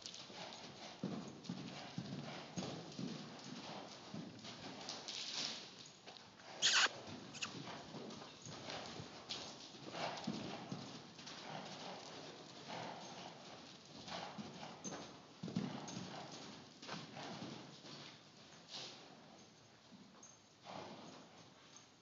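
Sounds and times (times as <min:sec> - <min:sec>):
hoofbeats in soft dirt: 0:00.0 - 0:22.0.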